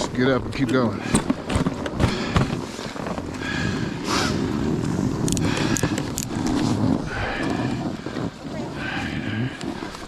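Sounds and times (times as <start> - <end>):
snowboard scraping over snow: 0.0 - 10.0.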